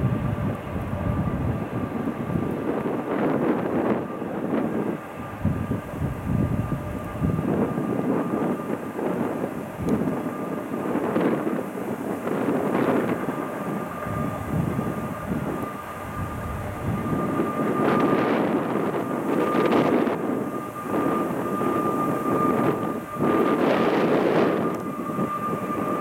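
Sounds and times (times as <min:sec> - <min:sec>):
train wheels rumbling on rails: 0:00.0 - 0:26.0
thin high whine: 0:01.0 - 0:26.0.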